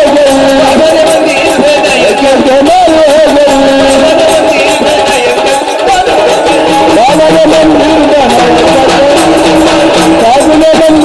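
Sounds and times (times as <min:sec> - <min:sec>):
fast rattling percussion: 0:00.0 - 0:11.0
wavering folk melody: 0:00.0 - 0:11.0.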